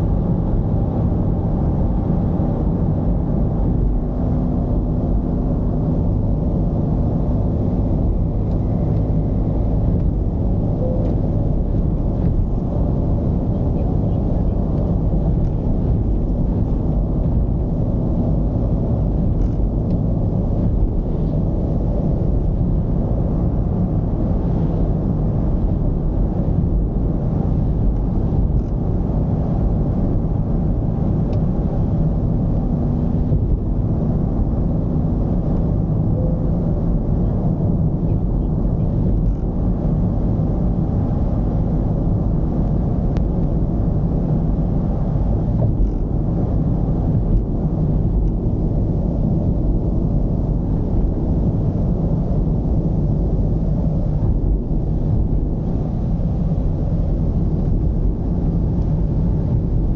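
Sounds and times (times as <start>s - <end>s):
diesel engine drone: 0.0s - 59.9s
road noise rumble: 0.0s - 59.9s.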